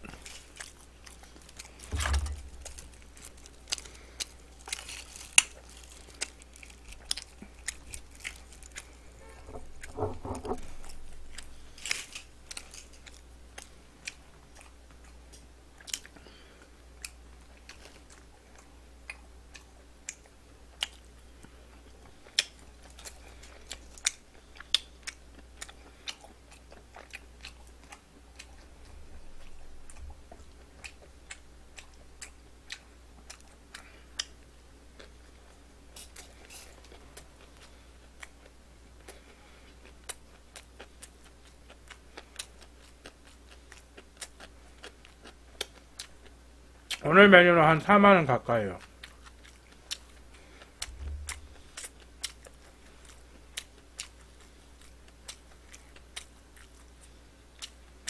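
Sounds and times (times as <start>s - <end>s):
person chewing and crunching food: 0.0s - 47.0s, 48.8s - 58.0s.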